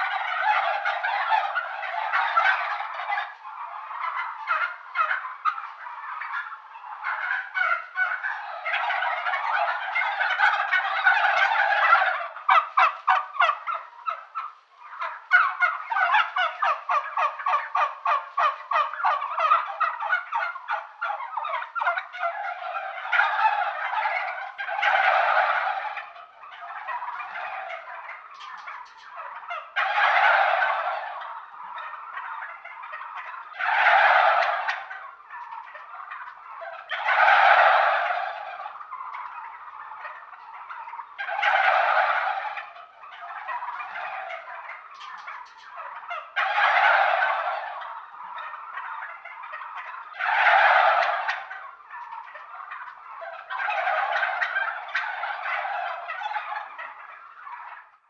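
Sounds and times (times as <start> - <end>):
turkeys gobbling: 0.0 - 58.0.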